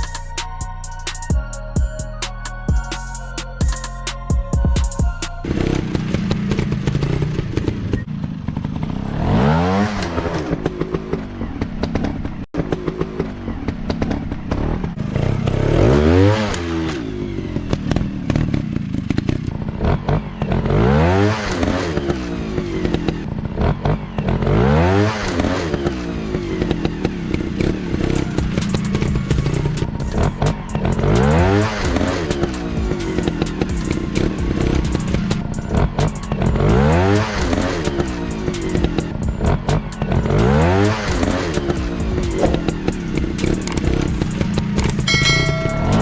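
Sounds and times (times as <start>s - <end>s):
dirt bike engines revving: 5.4s - 46.0s
engine clatter: 5.4s - 46.0s.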